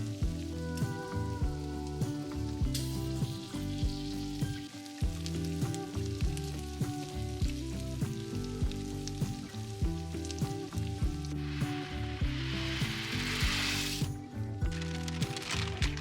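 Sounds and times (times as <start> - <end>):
background music with steady beat: 0.0 - 16.0
food frying in a pan: 0.0 - 16.0.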